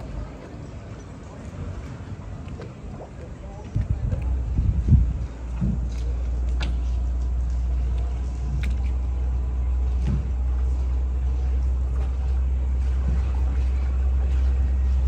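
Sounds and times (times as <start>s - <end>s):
low rumble of a boat: 0.0s - 15.0s.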